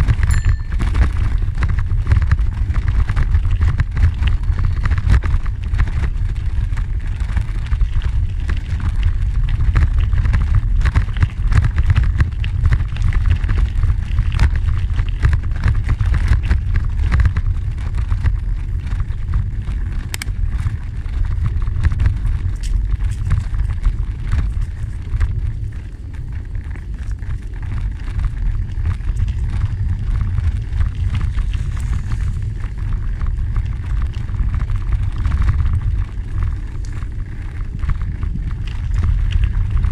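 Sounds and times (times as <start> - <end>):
bicycle rattling over stones: 0.0 - 39.9
bicycle tyres crunching on gravel: 0.0 - 39.9
wind rumbling on microphone: 0.0 - 39.9.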